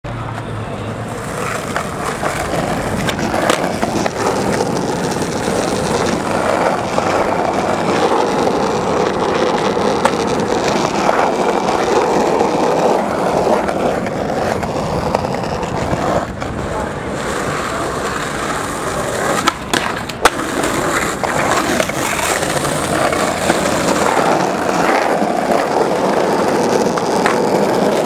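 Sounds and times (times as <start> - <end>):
skateboard clacks: 0.1 - 28.0
skateboard wheels rolling on paving: 0.1 - 28.0.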